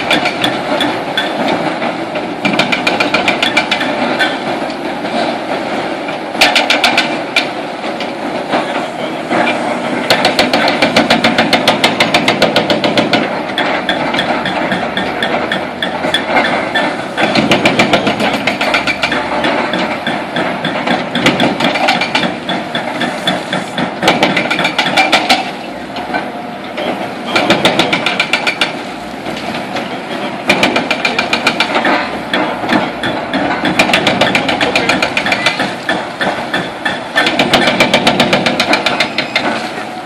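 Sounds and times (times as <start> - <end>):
hydraulic breaker hammering concrete: 0.0 - 4.4, 6.4 - 7.5, 9.4 - 25.6, 26.8 - 28.8, 30.2 - 39.7
excavator diesel engine running: 0.0 - 40.0.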